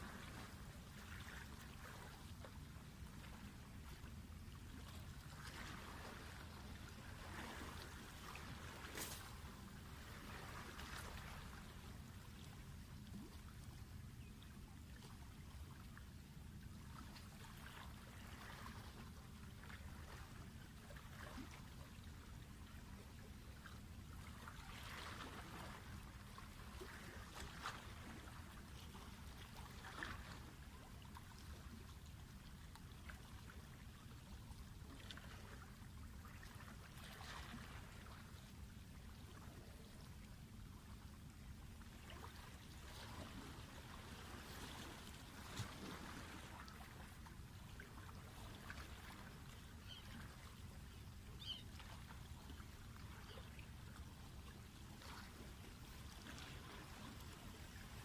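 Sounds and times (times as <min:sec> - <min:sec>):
water lapping at shore: 0:00.0 - 0:58.0.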